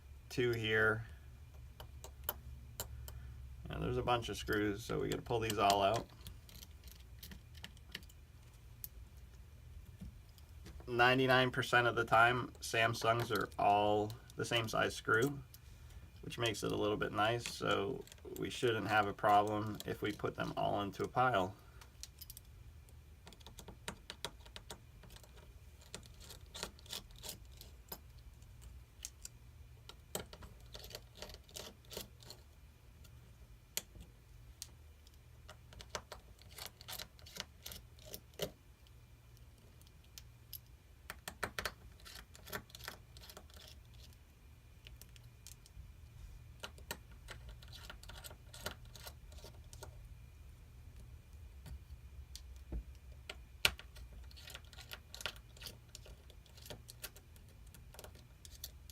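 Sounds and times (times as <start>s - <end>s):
low steady hum: 0.0s - 58.9s.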